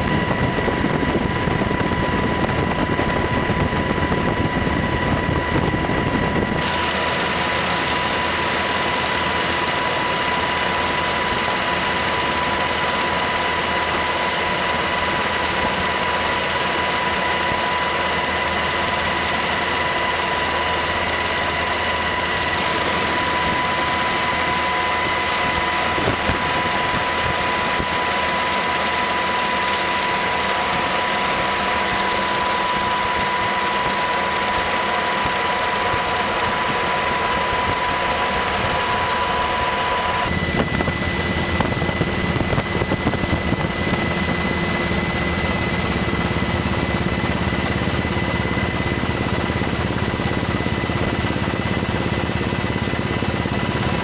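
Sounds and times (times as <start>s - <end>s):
aircraft engine drone and whine: 0.0s - 54.0s.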